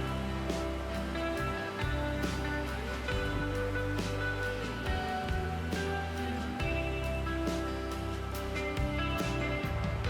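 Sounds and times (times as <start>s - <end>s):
plucked guitar notes: 0.0s - 10.0s
steady low bass: 0.0s - 10.0s.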